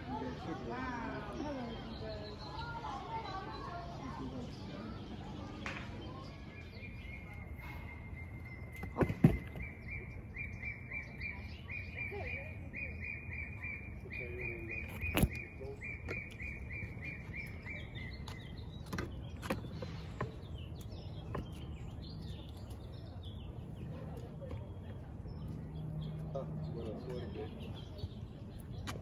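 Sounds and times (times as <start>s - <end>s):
bird chirping: 0.1s - 29.0s.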